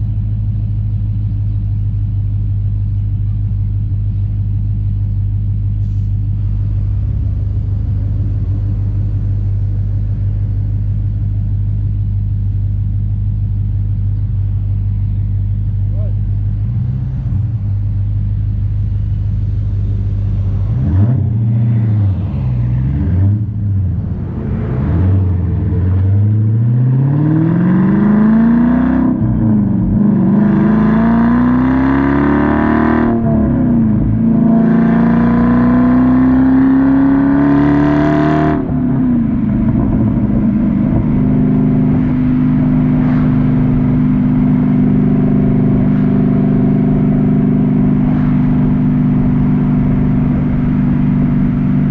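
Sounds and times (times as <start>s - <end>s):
car exhaust accelerating: 0.0s - 51.9s.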